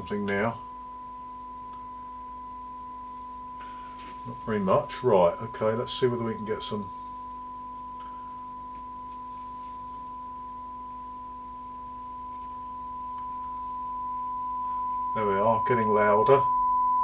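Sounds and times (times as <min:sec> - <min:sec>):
steady test tone from loudspeaker: 0:00.0 - 0:17.0.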